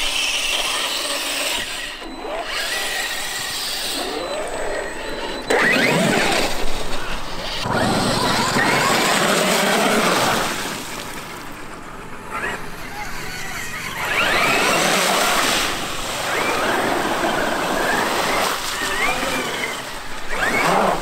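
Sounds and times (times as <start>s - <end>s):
electric motor whining: 0.0s - 11.2s, 12.2s - 21.0s
tyres churning over ground: 0.0s - 21.0s.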